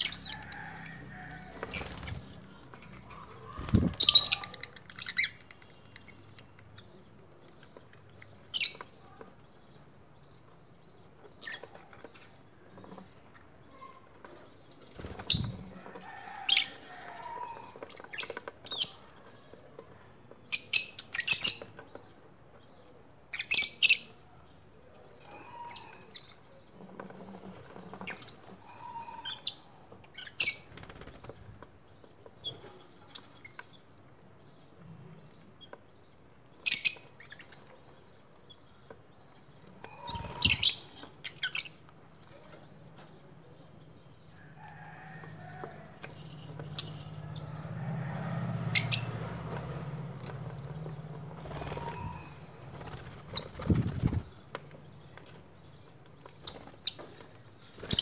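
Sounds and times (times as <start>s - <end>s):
birds chirping and screeching: 0.0s - 58.0s.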